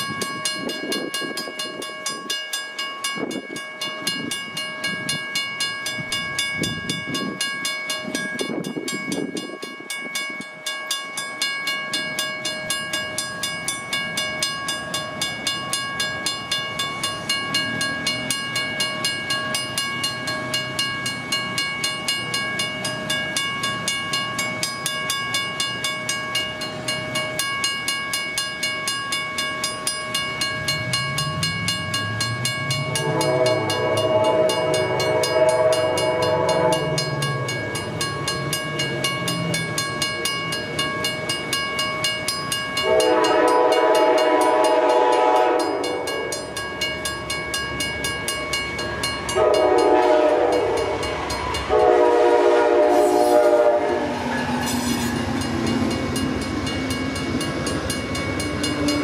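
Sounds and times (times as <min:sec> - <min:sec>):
crossing bell ringing: 0:00.0 - 0:59.0.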